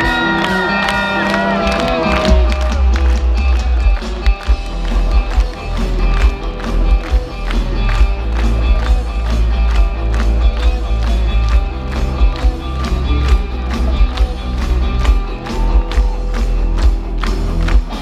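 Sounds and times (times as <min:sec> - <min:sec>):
electric guitars: 0:00.0 - 0:18.0
heavy bass: 0:00.0 - 0:18.0
steady drum beat: 0:00.0 - 0:18.0.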